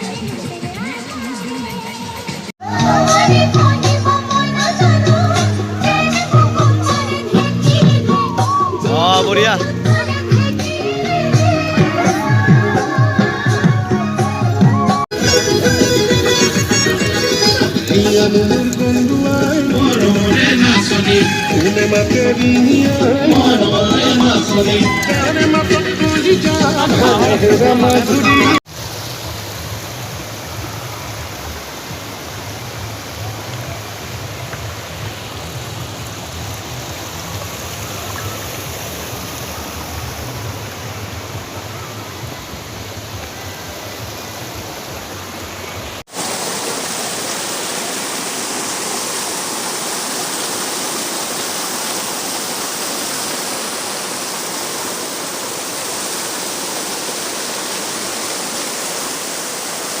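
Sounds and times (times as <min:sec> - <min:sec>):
waterfall rushing: 0:02.4 - 1:00.0.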